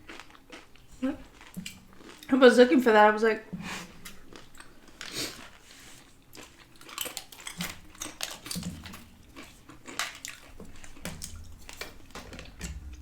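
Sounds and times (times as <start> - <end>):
crunchy food crunching: 0.0 - 2.4, 3.9 - 13.0.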